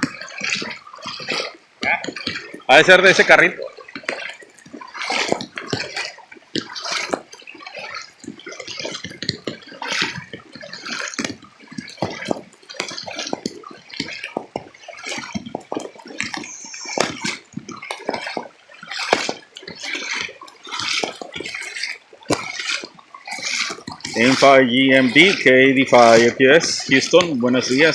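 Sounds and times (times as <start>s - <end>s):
water splashing and dripping: 0.0s - 27.9s.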